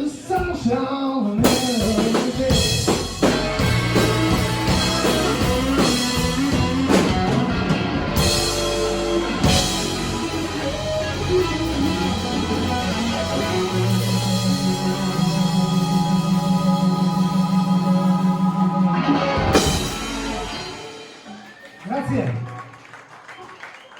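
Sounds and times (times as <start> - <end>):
live blues band: 0.0 - 21.8
electric guitar: 1.4 - 21.7.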